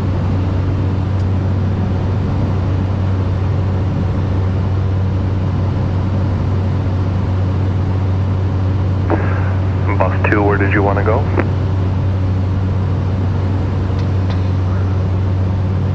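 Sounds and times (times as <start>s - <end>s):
turboprop engine droning: 0.0s - 15.9s.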